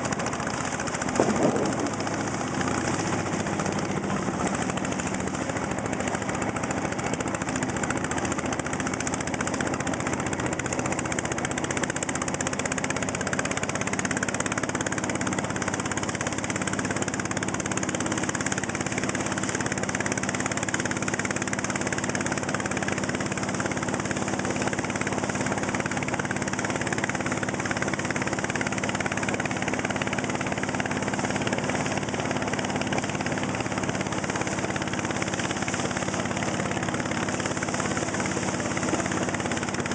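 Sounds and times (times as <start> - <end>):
boat engine running: 0.0 - 39.9
hiss of rushing air and water: 0.0 - 39.9.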